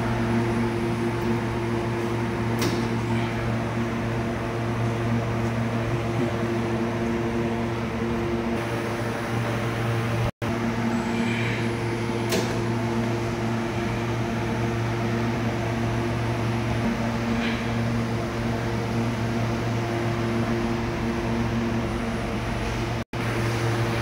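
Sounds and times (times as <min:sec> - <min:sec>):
cooling fans whirring: 0:00.0 - 0:24.0
electrical hum with steady tones: 0:00.0 - 0:24.0.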